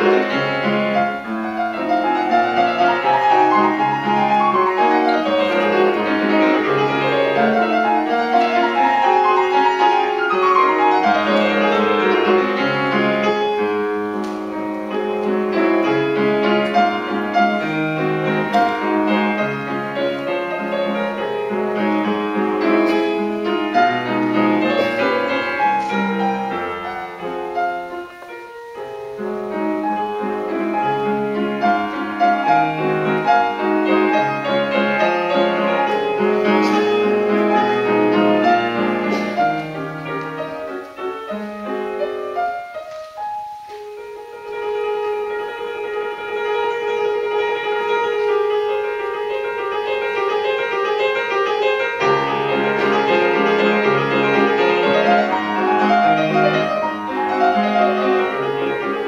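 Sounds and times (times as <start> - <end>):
classical piano piece: 0.0 - 59.0.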